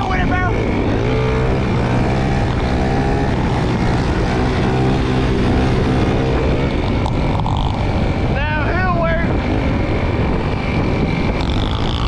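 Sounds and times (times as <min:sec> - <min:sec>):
moped engine drone: 0:00.0 - 0:12.0
wind and road noise: 0:00.0 - 0:12.0.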